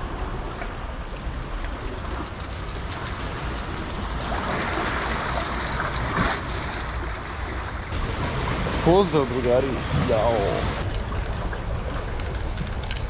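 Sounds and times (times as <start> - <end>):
wind rumbling on microphone: 0.0 - 13.0
sea washing against rocks: 2.0 - 13.0.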